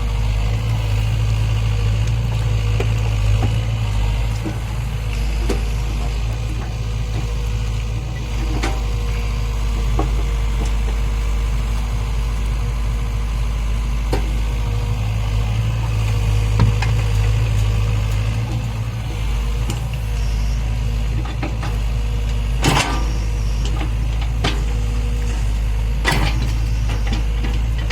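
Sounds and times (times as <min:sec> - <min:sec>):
heavy diesel engine humming: 0:00.0 - 0:27.9.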